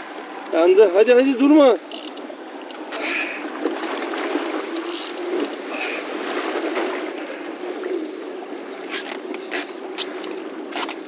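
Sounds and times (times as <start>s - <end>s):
sea water rushing: 0.0s - 11.0s
wind: 0.0s - 11.0s.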